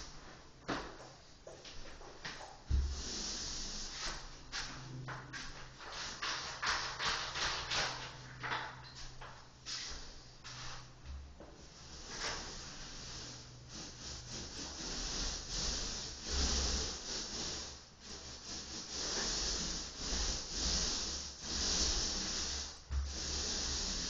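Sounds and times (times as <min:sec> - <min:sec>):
rubbing strokes on a surface: 0:02.3 - 0:08.6, 0:09.2 - 0:24.0.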